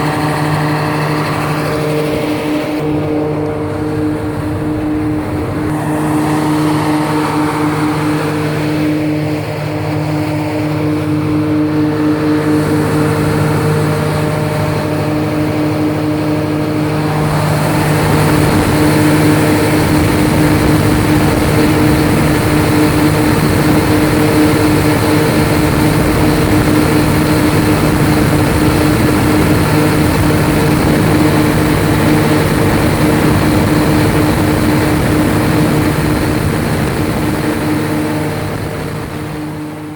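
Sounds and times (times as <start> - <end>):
diesel generator humming: 0.0 - 39.9.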